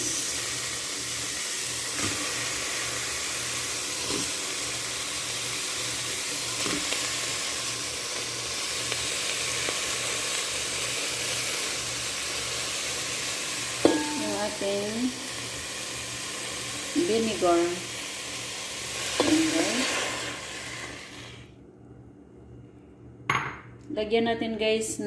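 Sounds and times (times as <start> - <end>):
oil sizzling in a pot: 0.0 - 21.5.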